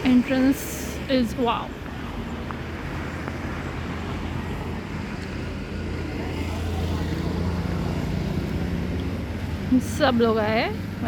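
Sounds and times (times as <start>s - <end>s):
vehicle passing with road noise: 0.0s - 11.0s.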